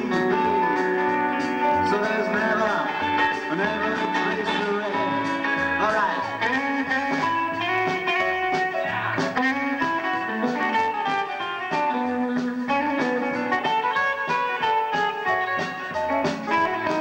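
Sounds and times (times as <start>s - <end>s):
drums: 0.0s - 17.0s
electric guitar lead: 0.0s - 17.0s
upright bass: 0.0s - 17.0s.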